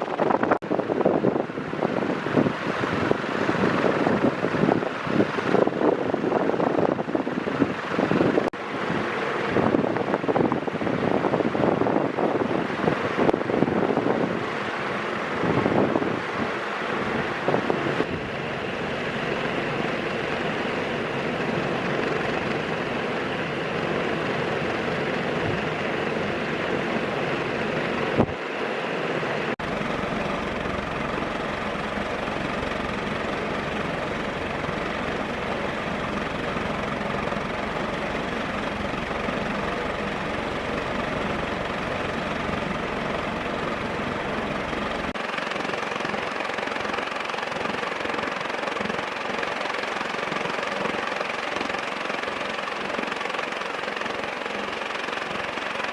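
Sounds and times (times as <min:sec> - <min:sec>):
fan motor hum: 0:00.0 - 0:55.6
ceiling fan air rush: 0:00.0 - 0:55.9.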